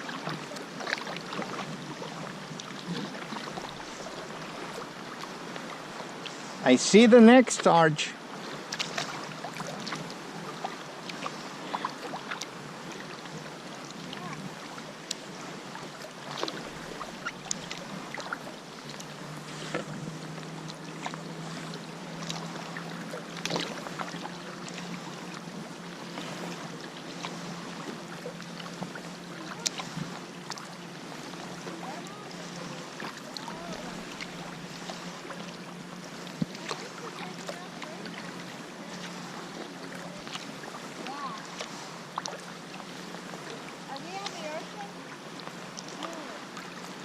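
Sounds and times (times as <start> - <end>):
paddle splashes and drips: 0.0 - 47.0
water wash: 0.0 - 47.0
wind: 0.0 - 47.0
low steady hum: 8.9 - 46.8.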